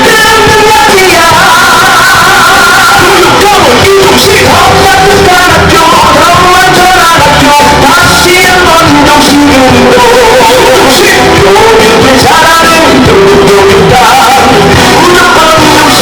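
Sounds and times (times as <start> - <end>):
song with vocals and band: 0.0 - 16.0.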